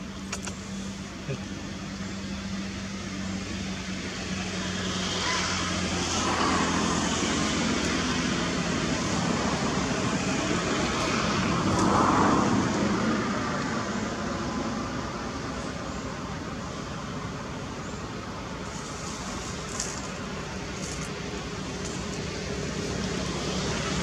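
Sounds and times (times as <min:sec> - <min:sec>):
traffic hum and rushing: 0:00.0 - 0:24.0.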